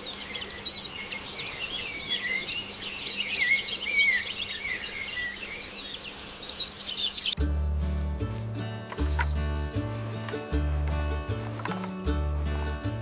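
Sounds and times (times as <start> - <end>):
small birds chirping: 0.0 - 7.5, 8.1 - 13.0.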